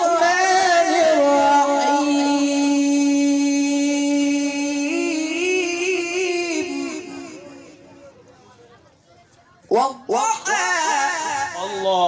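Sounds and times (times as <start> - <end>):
man reciting melodically: 0.0 - 8.0, 9.7 - 12.0.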